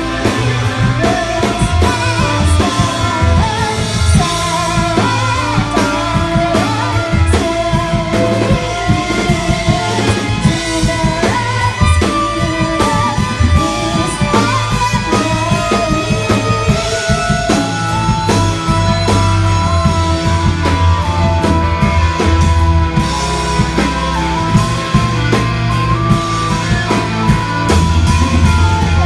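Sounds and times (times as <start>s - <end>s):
rock band playing live: 0.0s - 29.0s.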